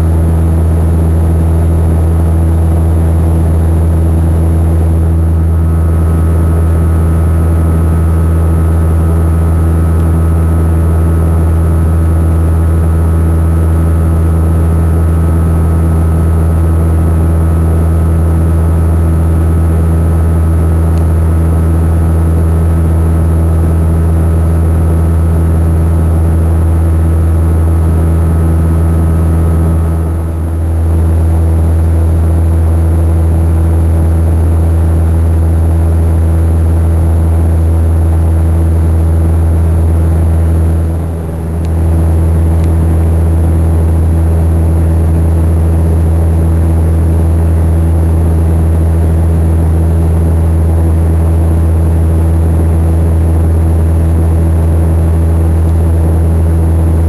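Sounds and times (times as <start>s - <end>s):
airliner engine and propeller drone: 0.0s - 57.0s.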